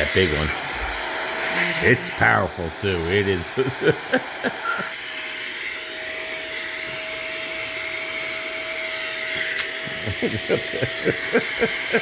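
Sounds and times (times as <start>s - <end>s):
electric air duster blowing: 0.0s - 12.0s.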